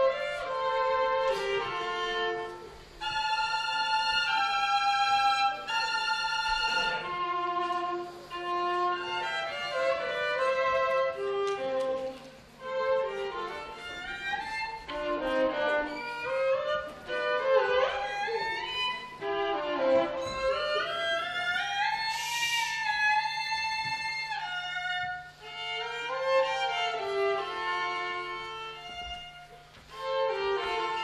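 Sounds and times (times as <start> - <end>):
solo violin playing: 0.0 - 31.0.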